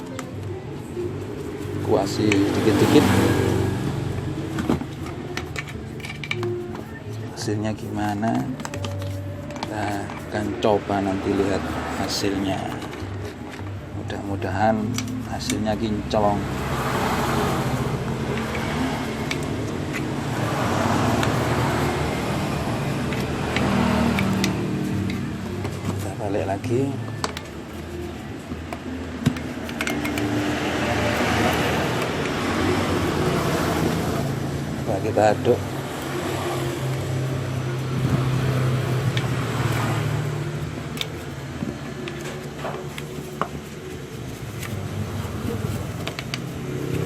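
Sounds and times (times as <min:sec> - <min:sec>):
vehicle engine humming: 0:00.0 - 0:47.0.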